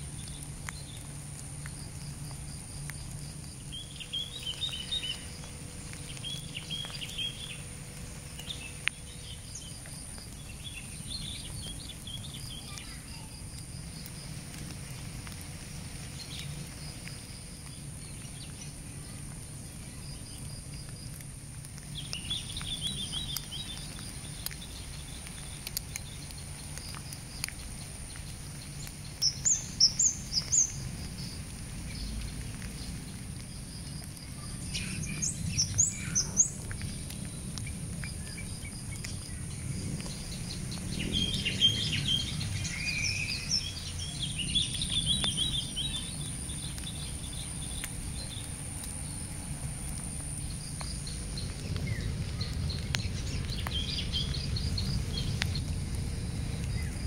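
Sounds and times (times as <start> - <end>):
low background rumble: 0.0 - 57.0
steady high-pitched hiss: 0.0 - 57.0
wild birds chirping: 2.0 - 19.2, 21.7 - 55.8.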